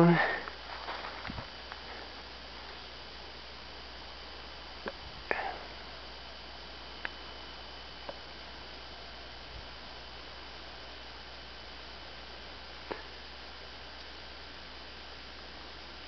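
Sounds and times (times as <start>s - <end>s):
faint steady hiss: 0.0s - 16.0s
low hum: 0.0s - 16.0s.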